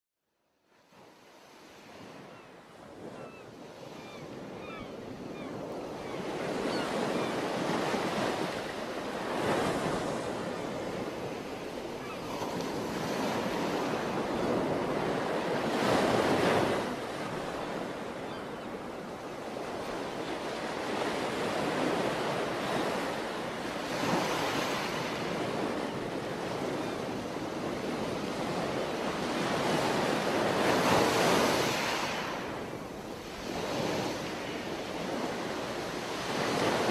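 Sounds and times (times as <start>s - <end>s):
ocean surf washing in and out: 6.0s - 36.9s.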